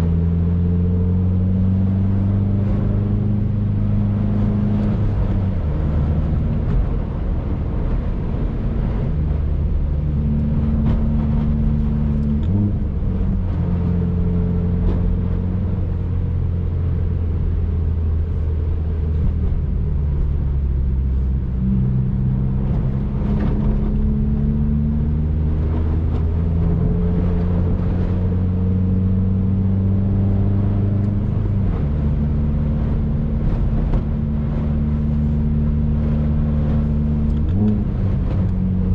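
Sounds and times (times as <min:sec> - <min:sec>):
road and tyre noise: 0:00.0 - 0:38.9.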